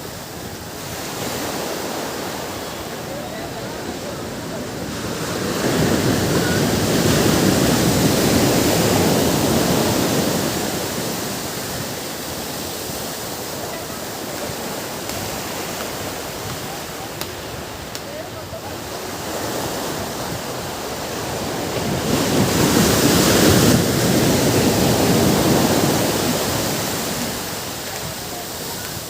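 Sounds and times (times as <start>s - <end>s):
ocean surf washing on beach: 0.0s - 29.0s
wave breaking: 0.0s - 29.0s.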